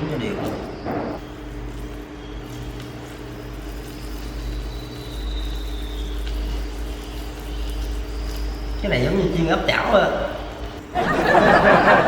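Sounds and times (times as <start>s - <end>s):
low hum and rumble: 0.0s - 12.0s
shrimp sizzling in oil: 1.2s - 11.0s.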